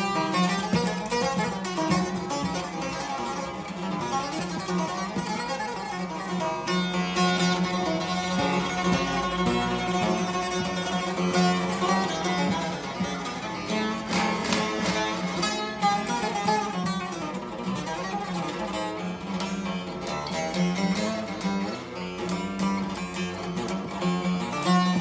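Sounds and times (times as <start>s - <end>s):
plucked long-necked lute melody: 0.0s - 25.0s.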